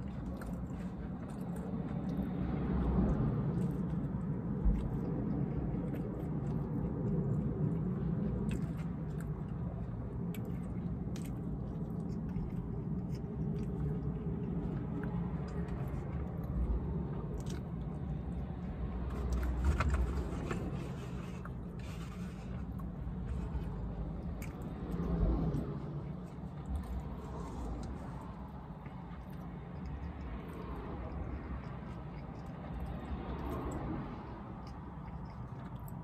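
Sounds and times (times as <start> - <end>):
person chewing: 0.0 - 36.0
steady low hum: 0.0 - 36.0.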